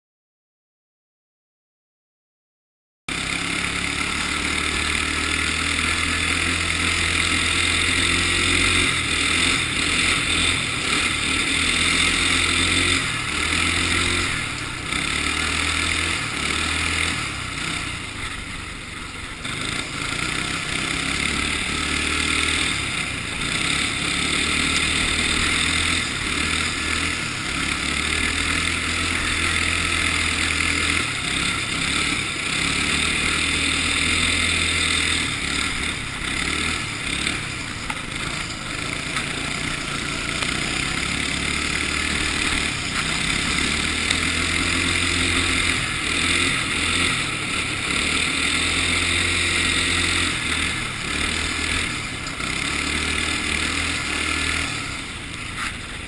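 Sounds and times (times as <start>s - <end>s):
go-kart engine running: 3.1s - 56.0s.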